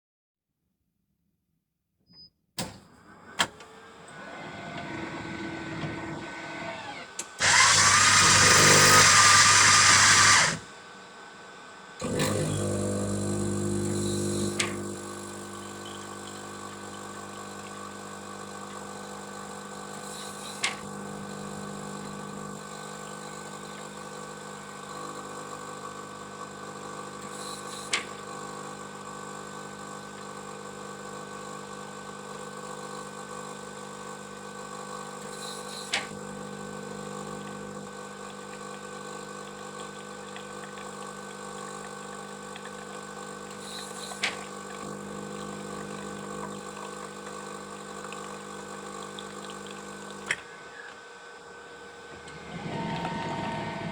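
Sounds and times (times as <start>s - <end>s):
coffee machine humming: 3.0s - 53.9s
coffee machine whirring: 3.0s - 53.9s.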